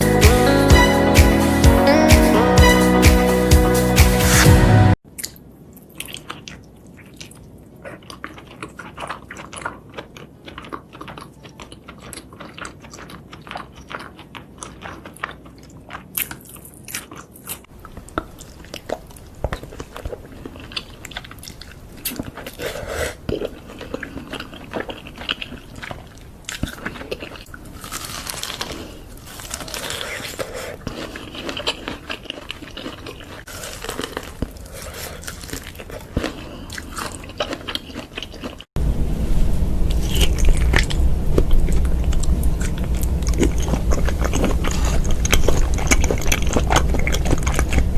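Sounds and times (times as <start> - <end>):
chewing seafood with crunches: 5.1 - 38.8, 39.9 - 47.9.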